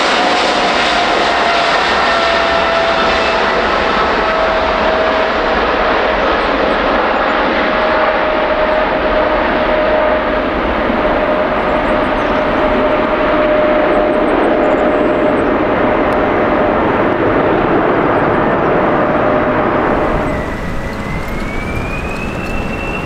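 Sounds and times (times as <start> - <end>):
jet engine roar at takeoff: 0.0 - 23.0
jet engines spooling up whine: 0.0 - 23.0.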